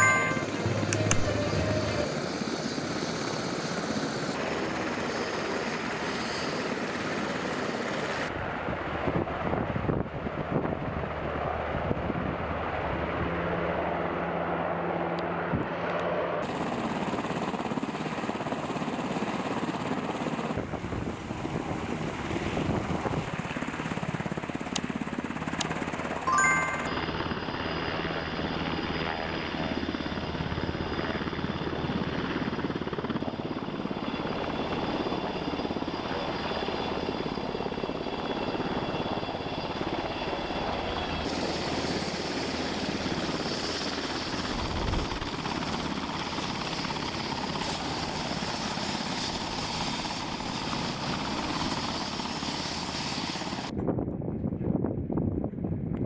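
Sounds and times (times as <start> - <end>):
helicopter engines and rotors: 0.0 - 56.0.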